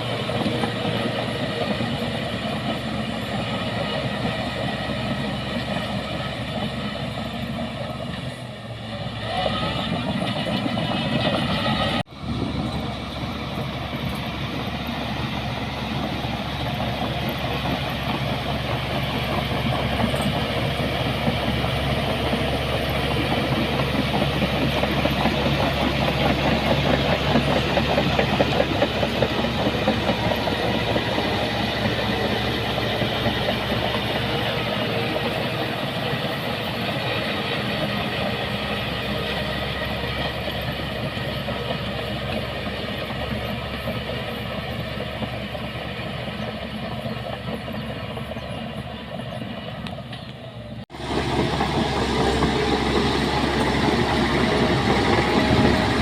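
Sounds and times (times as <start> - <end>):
bulldozer engine running: 0.0 - 56.0
clatter of steel tracks: 0.0 - 56.0.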